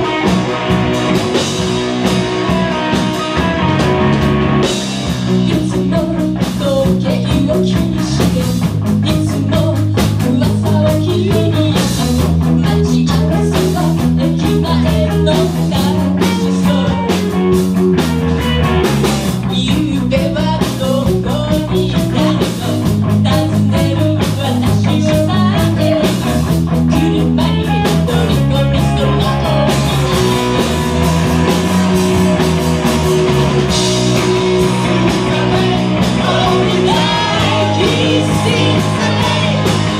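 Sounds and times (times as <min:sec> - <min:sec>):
lead singer: 0:00.0 - 0:32.4, 0:33.4 - 0:39.9
distorted electric guitars: 0:00.0 - 0:39.9
drum kit: 0:00.0 - 0:39.9.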